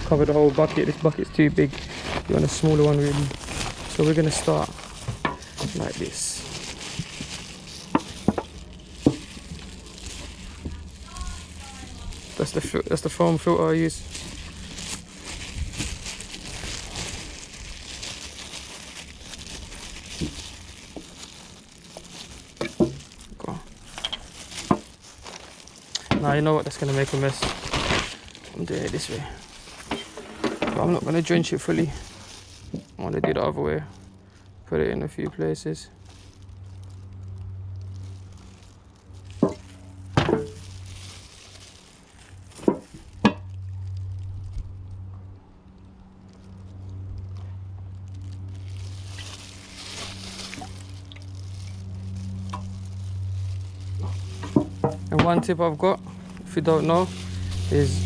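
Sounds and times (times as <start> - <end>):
low hum: 0.0 - 33.0, 35.8 - 58.0
plastic bag rustling: 0.0 - 58.0.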